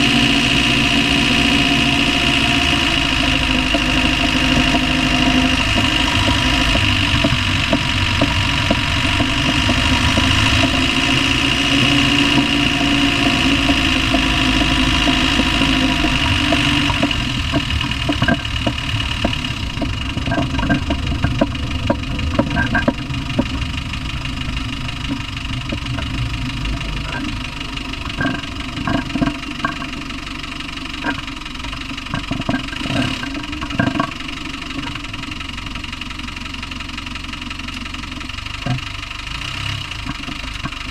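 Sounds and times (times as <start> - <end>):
diesel engine running: 0.0 - 40.9
engine knocking: 0.0 - 40.9
engine whine: 0.0 - 40.9.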